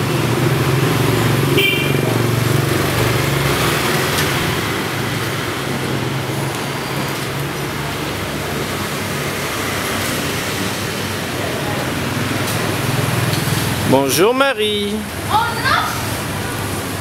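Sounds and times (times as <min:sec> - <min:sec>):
motorbikes and cars passing: 0:00.0 - 0:17.0.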